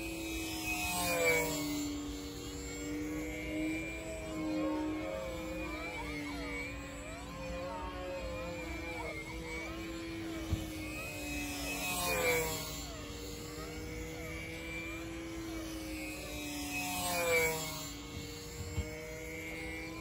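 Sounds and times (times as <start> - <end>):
model aircraft motor and propeller: 0.0 - 20.0.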